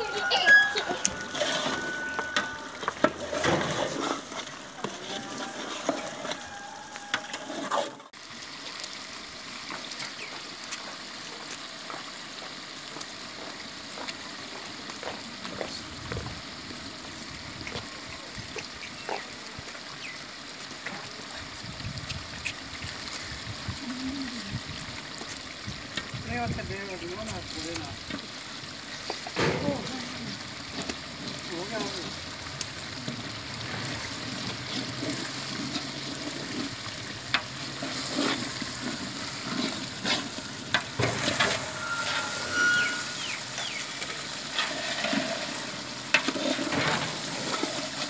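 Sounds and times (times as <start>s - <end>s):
curry simmering and sizzling: 0.0s - 48.0s.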